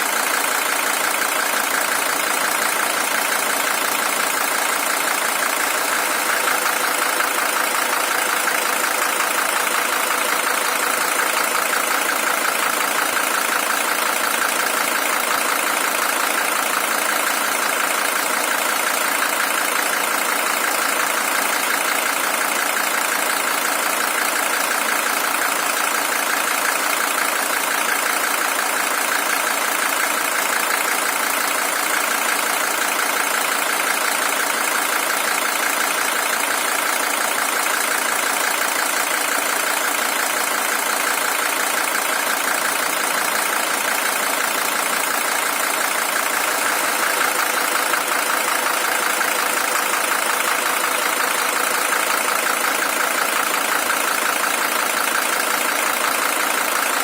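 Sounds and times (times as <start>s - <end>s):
diesel engine idling with clatter: 0.0s - 57.0s.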